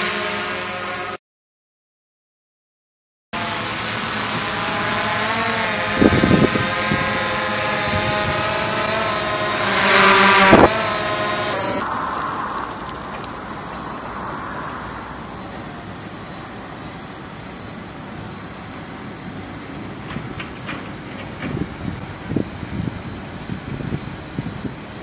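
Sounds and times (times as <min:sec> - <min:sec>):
drone propellers buzzing: 0:00.0 - 0:01.2, 0:03.4 - 0:25.0.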